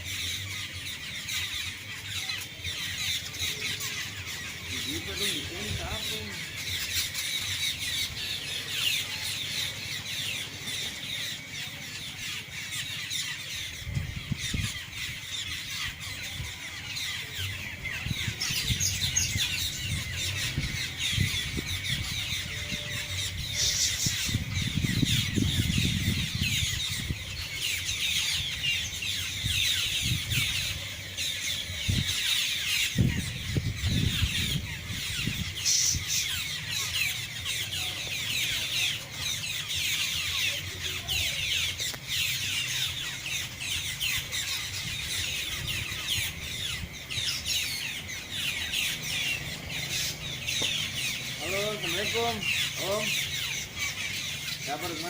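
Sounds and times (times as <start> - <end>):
flock of birds chattering: 0.0 - 55.0.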